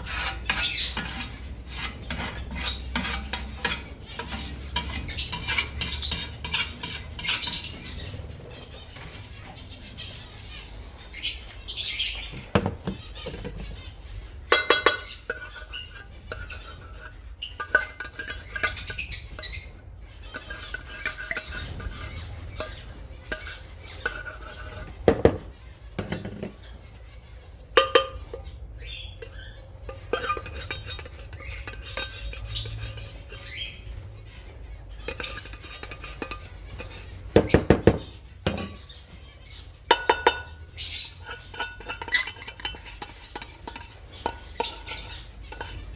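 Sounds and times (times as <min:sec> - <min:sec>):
dishes and utensils clinking: 0:00.0 - 0:09.7, 0:11.8 - 0:26.8, 0:27.4 - 0:45.9.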